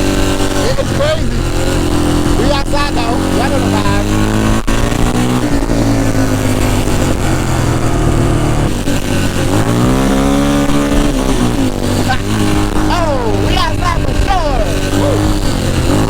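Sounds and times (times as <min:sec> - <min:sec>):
quad engine revving: 0:00.0 - 0:16.0.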